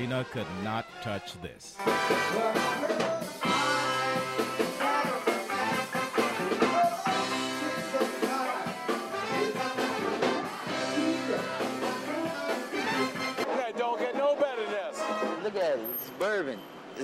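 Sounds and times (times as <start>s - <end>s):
brass band playing upbeat tune: 0.0s - 13.6s, 14.2s - 15.8s.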